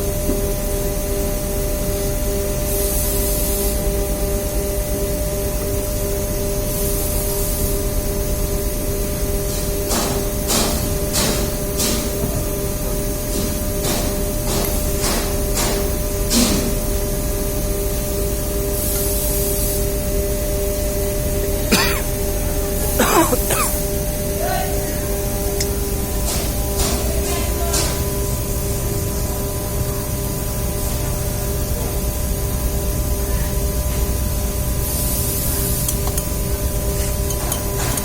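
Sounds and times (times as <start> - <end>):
machinery hum and hiss: 0.0 - 38.0.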